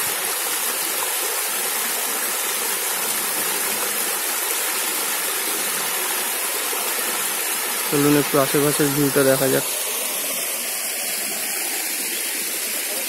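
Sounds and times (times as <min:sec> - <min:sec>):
waterfall splashing into pool: 0:00.0 - 0:13.0.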